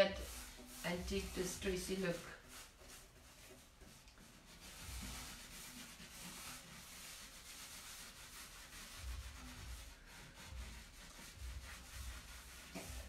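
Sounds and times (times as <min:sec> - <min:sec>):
rubbing on wooden box: 0:00.0 - 0:13.0.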